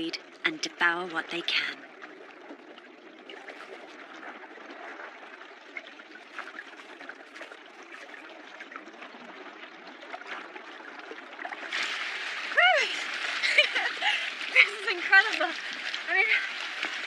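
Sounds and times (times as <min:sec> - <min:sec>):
underwater water wash: 0:00.0 - 0:17.0.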